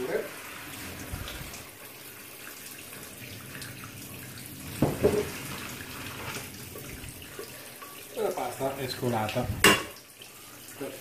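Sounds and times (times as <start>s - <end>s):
tap water running into sink: 0.0s - 11.0s
water poured into colander: 0.0s - 11.0s.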